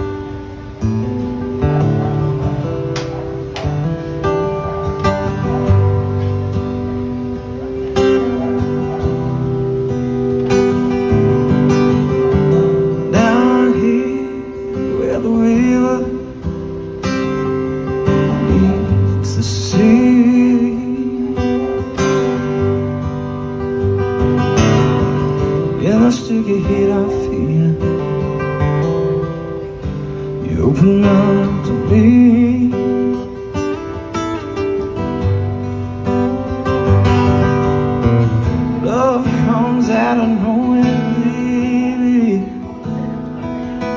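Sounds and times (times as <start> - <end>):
acoustic guitar strumming chords: 0.0 - 43.9.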